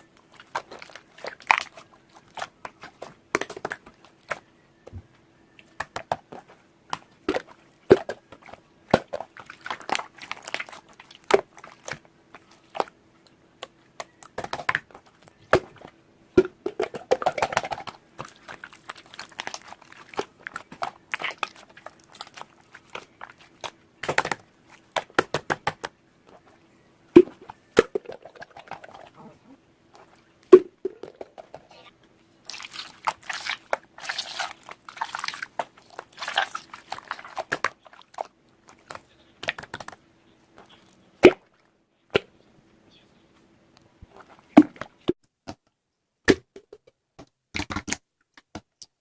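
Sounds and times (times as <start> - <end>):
clicks crackles and crinkling: 0.0 - 16.0, 16.6 - 29.2, 29.9 - 42.3
faint steady hum: 0.0 - 45.2.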